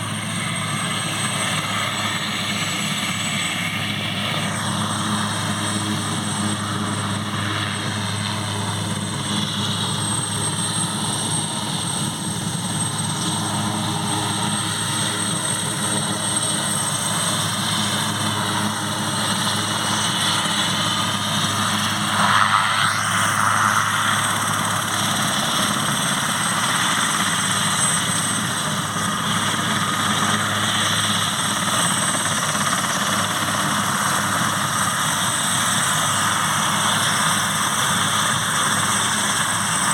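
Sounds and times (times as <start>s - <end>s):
helicopter engines and rotors: 0.0s - 39.9s.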